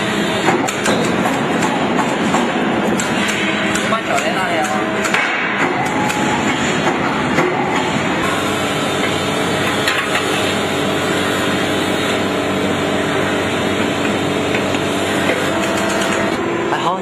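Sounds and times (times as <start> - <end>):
heavy machinery running: 0.0 - 17.0.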